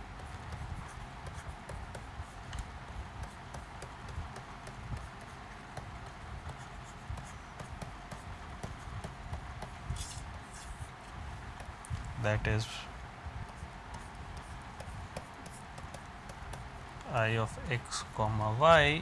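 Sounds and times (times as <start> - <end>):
steady background hiss: 0.0 - 19.0
stylus tapping and scratching: 0.0 - 19.0.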